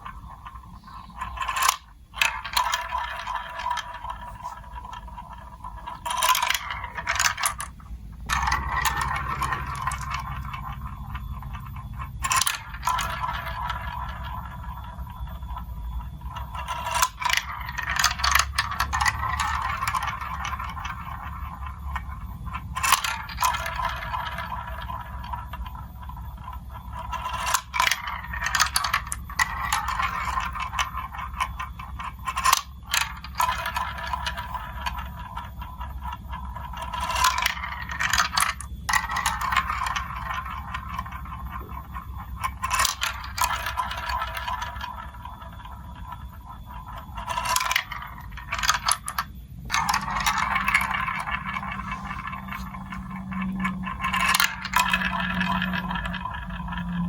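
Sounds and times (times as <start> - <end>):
marbles clicking against pieces: 0.0 - 57.0
marbles rolling and rattling: 0.0 - 57.0.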